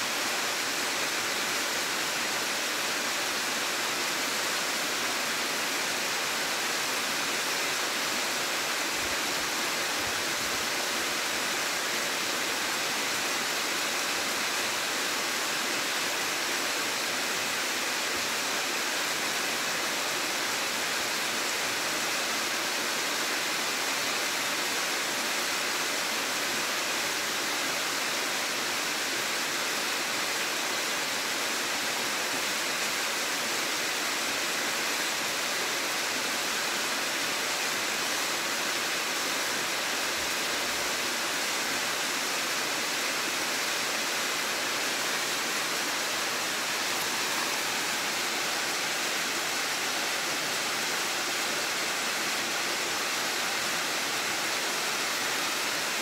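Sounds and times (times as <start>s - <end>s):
waterfall: 0.0s - 56.0s.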